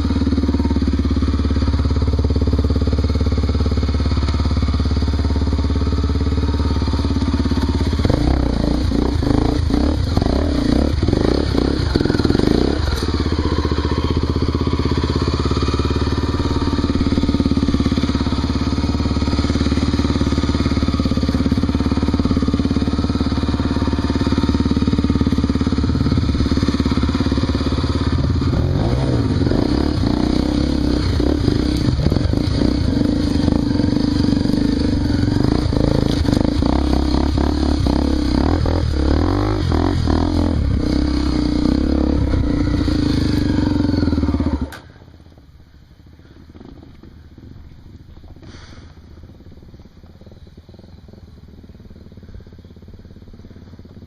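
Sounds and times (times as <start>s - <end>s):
motorcycle engine revving: 0.0s - 45.3s, 46.2s - 54.0s
engine clatter: 0.0s - 45.5s, 46.1s - 54.0s.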